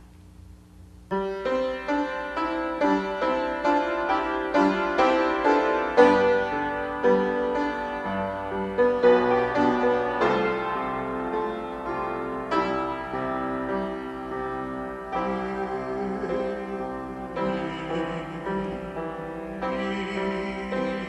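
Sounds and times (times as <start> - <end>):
upright piano playing: 1.1 - 21.0.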